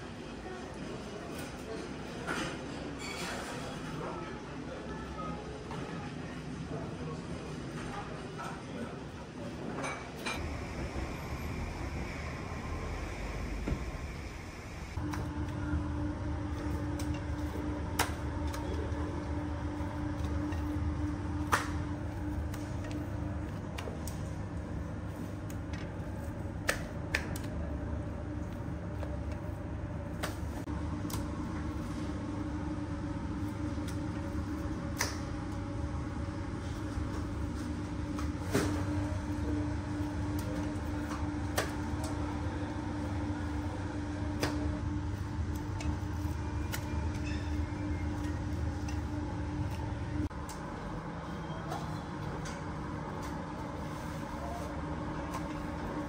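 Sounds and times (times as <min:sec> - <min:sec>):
machine hum: 0:10.4 - 0:56.0.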